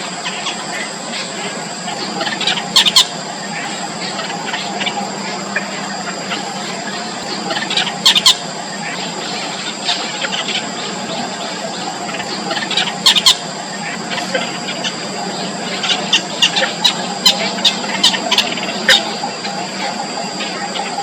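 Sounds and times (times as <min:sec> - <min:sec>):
nestling birds cheeping: 0:00.0 - 0:21.0
steady low hum: 0:00.0 - 0:21.0.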